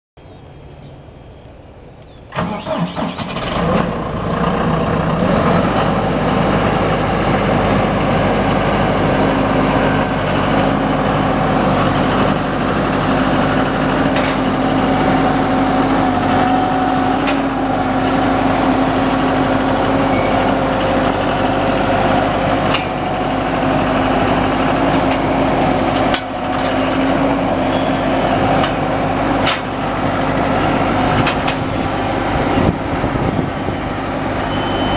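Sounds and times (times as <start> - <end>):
tractor diesel engine starting: 2.3 - 34.9.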